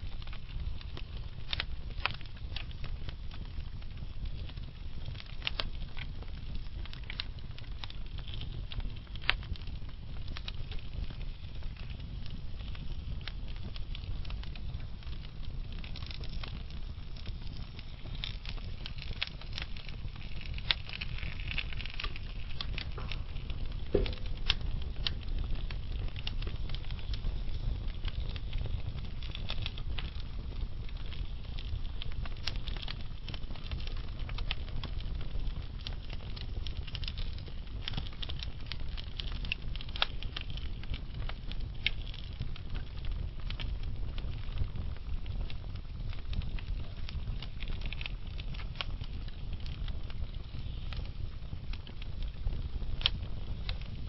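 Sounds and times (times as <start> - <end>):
burning wood hiss: 0.0 - 54.0
fire rumbling: 0.0 - 54.0
wood crackling and popping: 0.0 - 54.0.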